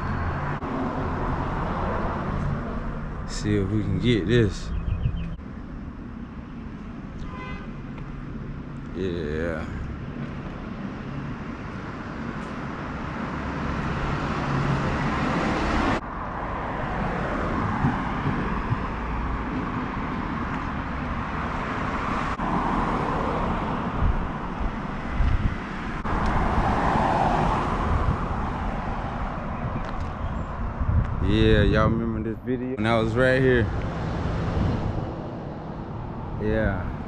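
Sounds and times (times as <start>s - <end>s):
road vehicle rumble: 0.0s - 37.0s.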